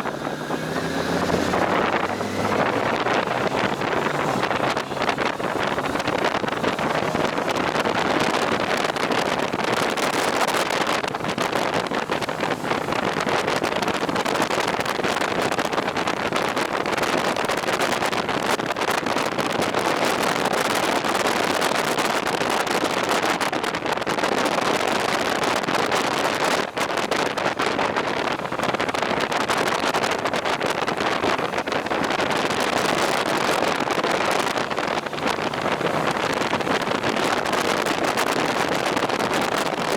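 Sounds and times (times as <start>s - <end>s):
wind rushing on microphone: 0.0s - 39.9s.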